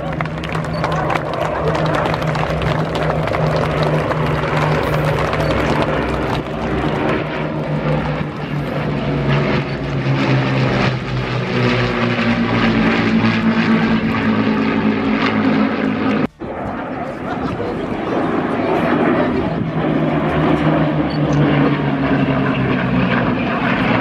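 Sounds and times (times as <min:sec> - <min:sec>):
propeller plane engines overhead: 0:00.0 - 0:24.0.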